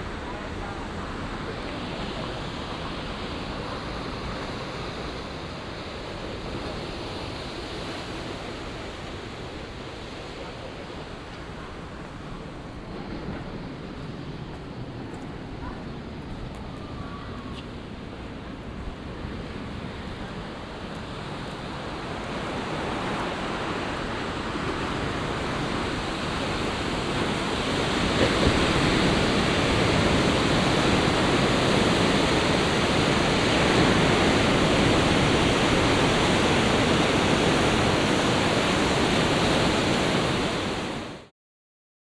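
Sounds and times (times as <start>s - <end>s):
sea surf rushing: 0.0s - 41.3s
wind: 0.0s - 41.3s.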